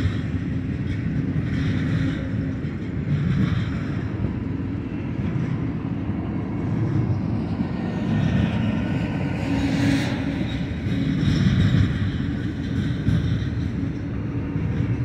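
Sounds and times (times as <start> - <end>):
freight wheels rumbling on rails: 0.0 - 15.0.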